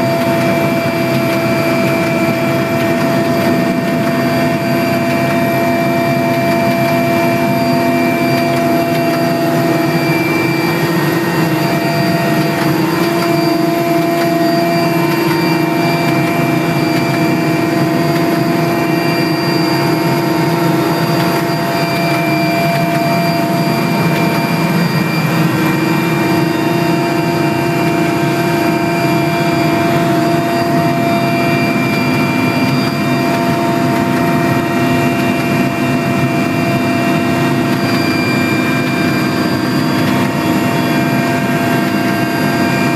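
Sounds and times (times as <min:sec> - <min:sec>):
fixed whining tones: 0:00.0 - 0:42.9
helicopter engine and rotor noise: 0:00.0 - 0:42.9.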